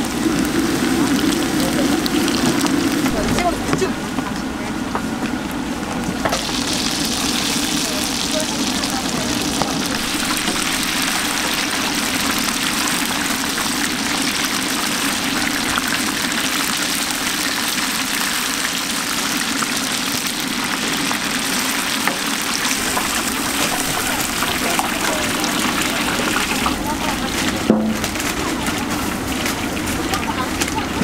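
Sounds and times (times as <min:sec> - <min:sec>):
vegetables deep-frying in oil: 0:00.0 - 0:31.0.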